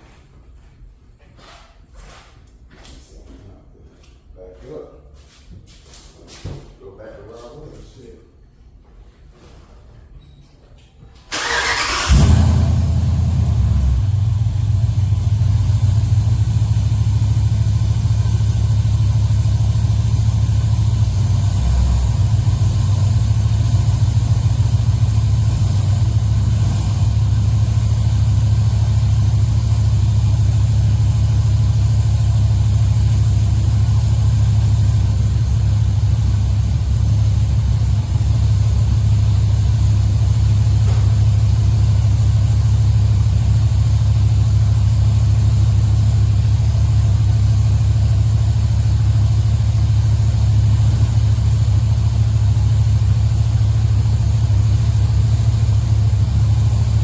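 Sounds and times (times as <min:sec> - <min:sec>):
car engine idling: 0:11.3 - 0:57.0.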